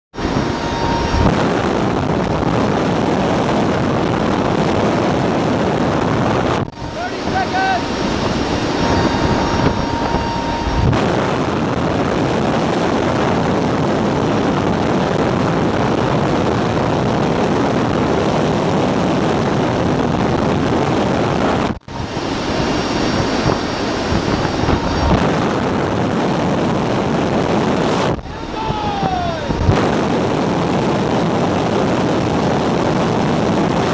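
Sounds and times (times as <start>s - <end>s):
aircraft rushing noise: 0.1s - 17.0s, 21.2s - 33.9s
wind on microphone: 0.1s - 33.9s.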